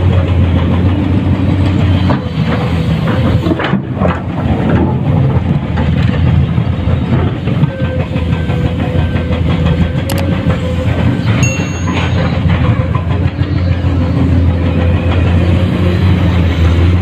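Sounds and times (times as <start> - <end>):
excavator diesel engine drone: 0.0 - 17.0
knocks and clatter: 0.0 - 17.0.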